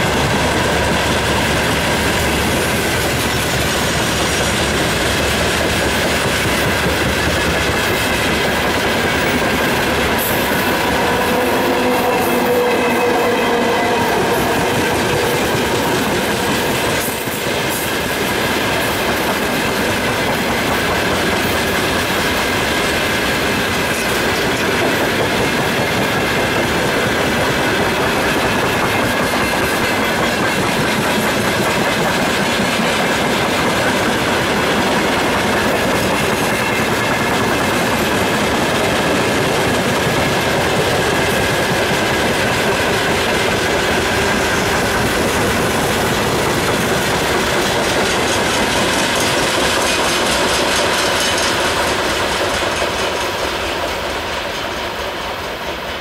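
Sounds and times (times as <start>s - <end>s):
freight train rumbling past: 0.0s - 56.0s
wheels clacking over rails: 0.0s - 56.0s.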